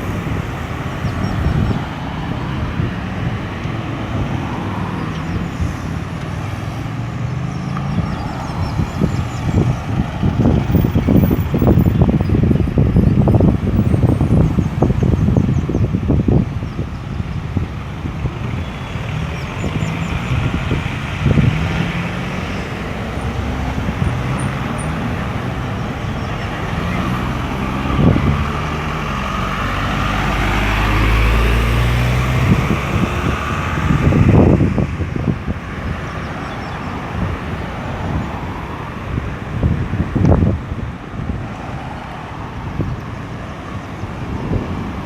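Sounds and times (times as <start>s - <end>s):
heavy vehicle engine rumble: 0.0s - 45.0s
traffic passing: 0.0s - 45.0s.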